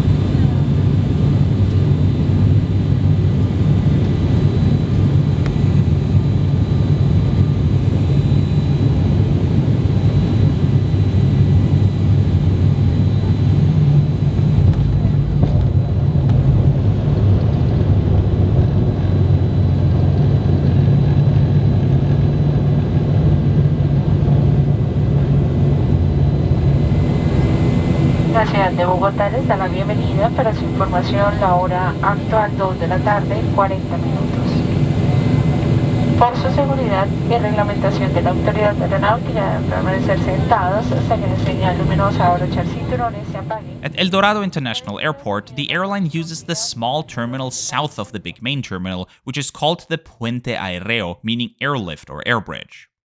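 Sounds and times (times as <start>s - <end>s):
turboprop engine drone: 0.0s - 45.6s.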